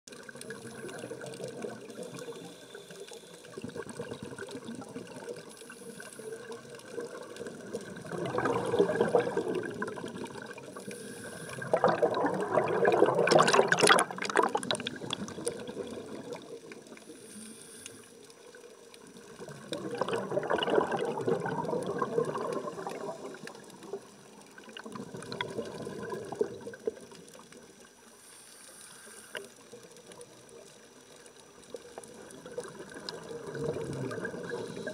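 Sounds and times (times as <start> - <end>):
scuba regulator exhaust bubbling: 0.1 - 17.3, 19.1 - 27.6, 31.8 - 34.9.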